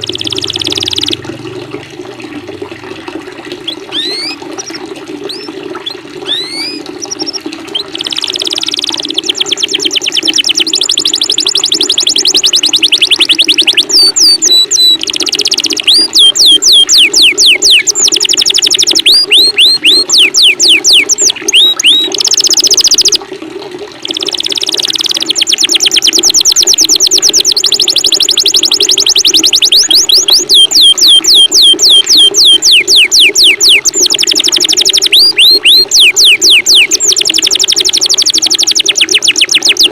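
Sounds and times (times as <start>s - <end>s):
songbirds singing: 0.0s - 1.2s, 3.6s - 23.1s, 27.5s - 39.9s
running water: 0.0s - 39.9s.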